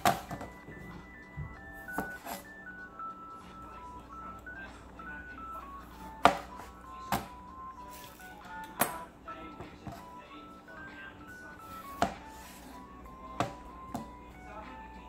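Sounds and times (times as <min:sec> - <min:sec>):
simple melody of plain notes: 0:00.0 - 0:15.0.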